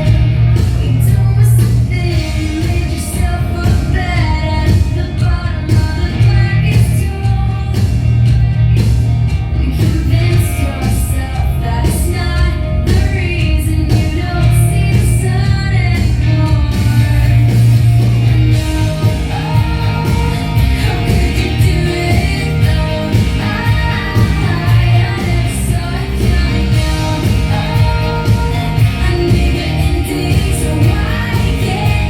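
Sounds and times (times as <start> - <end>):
rock song with vocals: 0.0 - 32.0.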